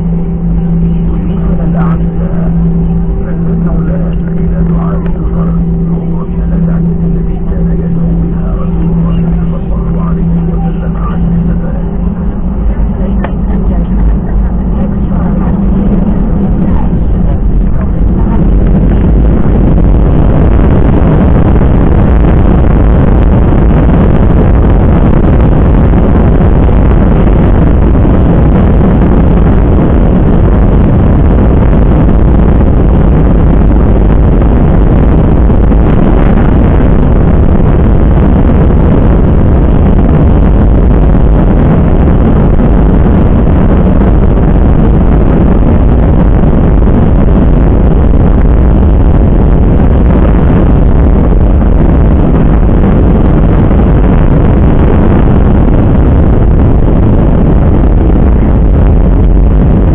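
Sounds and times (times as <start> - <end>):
jet airliner cabin engine noise: 0.0 - 59.9.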